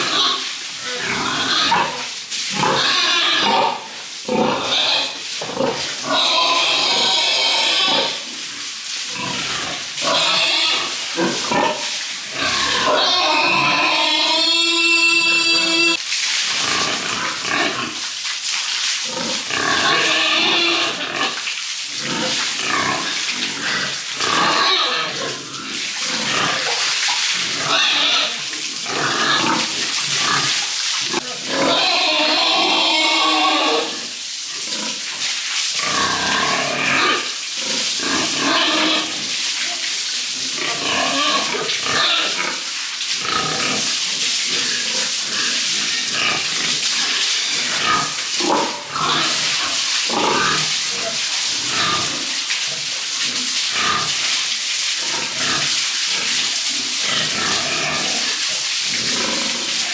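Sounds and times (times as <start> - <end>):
pigs squealing and grunting: 0.0 - 16.0, 16.6 - 18.0, 19.0 - 21.4, 22.0 - 35.1, 35.8 - 54.4, 55.0 - 59.9.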